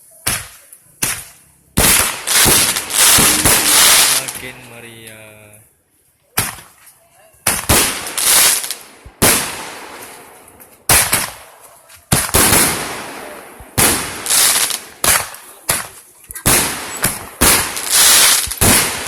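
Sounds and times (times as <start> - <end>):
fireworks bangs: 0.2 - 4.7, 7.4 - 19.0.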